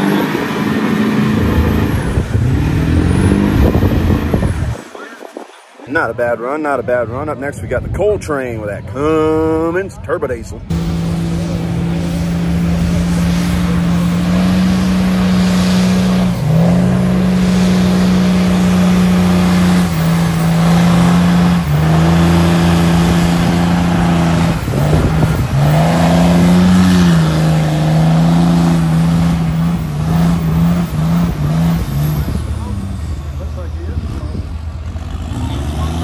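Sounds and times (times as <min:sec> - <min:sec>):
diesel engine under heavy load: 0:00.0 - 0:07.9, 0:10.5 - 0:36.0
tires churning through mud: 0:00.0 - 0:08.0, 0:10.7 - 0:36.0.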